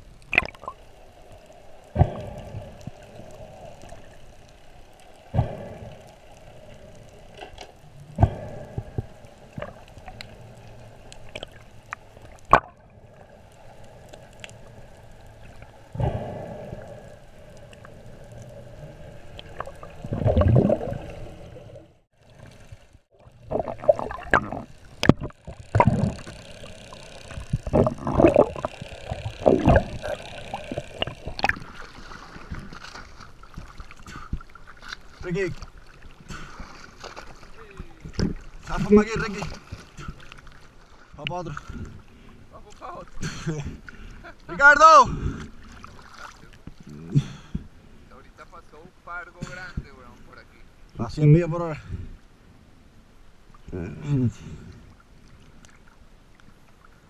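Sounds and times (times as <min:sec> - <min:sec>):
water gurgling: 0:00.0 - 0:47.6.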